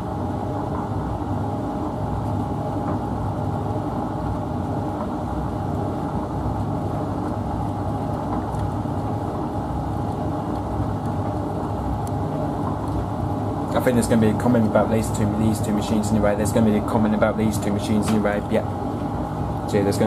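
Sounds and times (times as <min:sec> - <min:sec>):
washing machine and dryer humming: 0:00.0 - 0:20.0.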